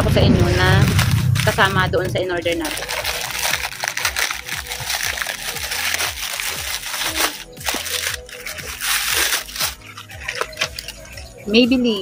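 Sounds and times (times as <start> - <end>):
plastic packaging crinkling: 0.8 - 11.5.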